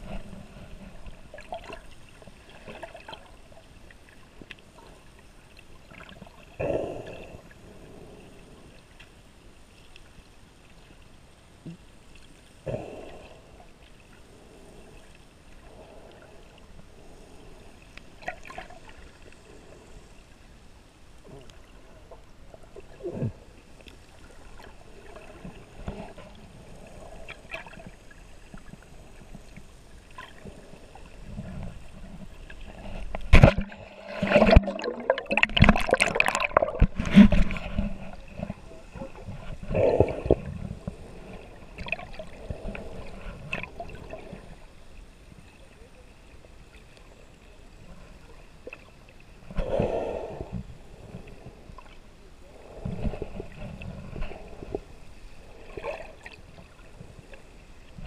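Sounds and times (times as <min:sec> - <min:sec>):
muffled underwater wash: 0:00.0 - 0:58.0.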